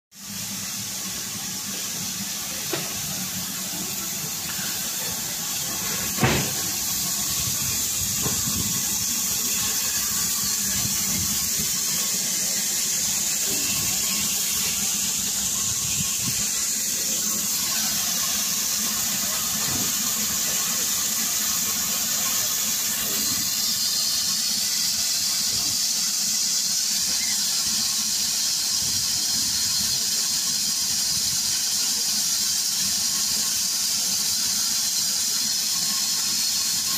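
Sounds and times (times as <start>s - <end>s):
steam hissing: 0.1s - 36.9s.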